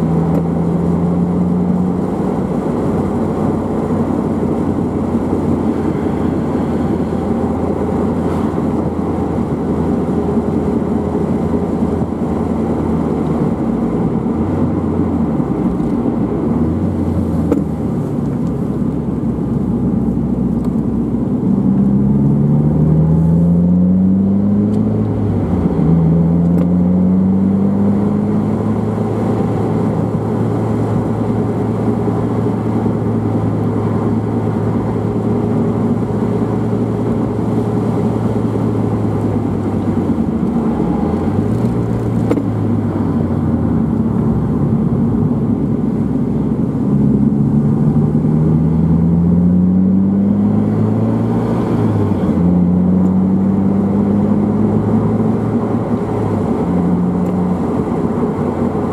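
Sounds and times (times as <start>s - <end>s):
car engine revving: 0.0s - 58.9s
road noise: 0.0s - 58.9s.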